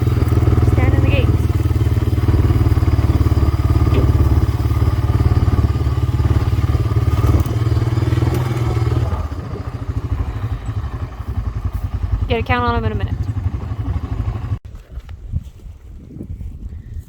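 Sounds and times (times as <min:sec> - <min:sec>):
atv engine running: 0:00.0 - 0:14.6.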